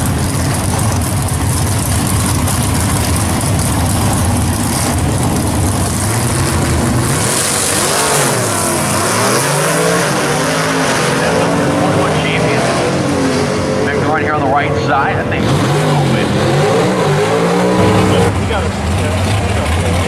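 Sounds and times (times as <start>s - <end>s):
drag car engines running loudly: 0.0s - 20.0s
engine revving: 0.0s - 20.0s.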